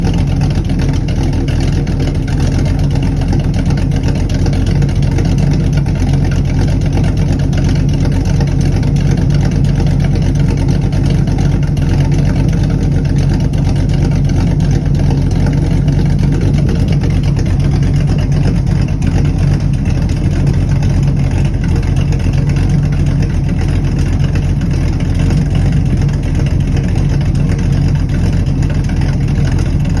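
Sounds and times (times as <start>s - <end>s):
car exhaust idling: 0.0s - 30.0s.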